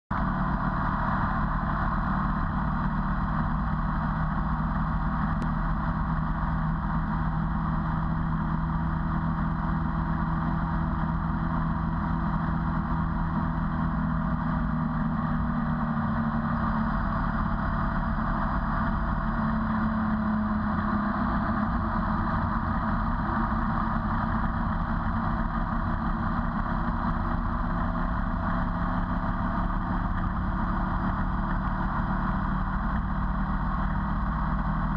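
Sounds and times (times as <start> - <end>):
motorcycle engine running: 0.1 - 34.9
wind and road noise: 0.1 - 34.9.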